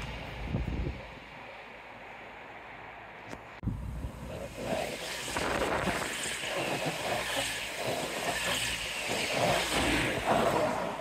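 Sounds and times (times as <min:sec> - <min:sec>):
train passing: 0:00.0 - 0:11.0.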